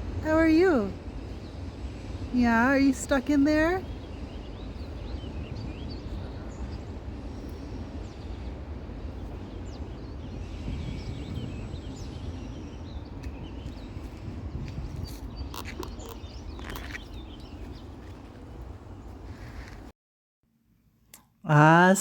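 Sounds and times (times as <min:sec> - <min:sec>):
birds chirping: 0:00.0 - 0:19.9
steady low rumble: 0:00.0 - 0:19.9.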